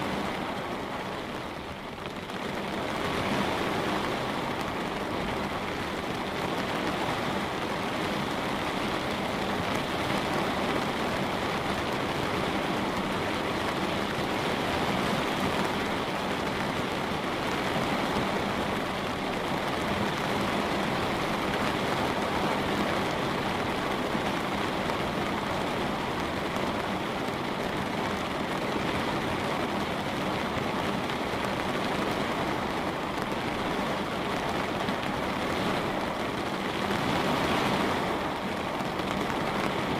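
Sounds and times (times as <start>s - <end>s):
light rain on a window: 0.0s - 39.9s.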